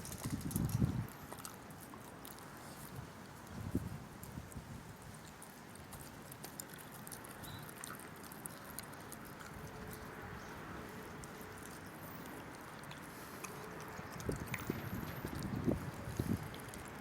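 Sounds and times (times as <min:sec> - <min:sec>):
dog chewing and licking: 0:00.0 - 0:03.6, 0:04.2 - 0:17.0.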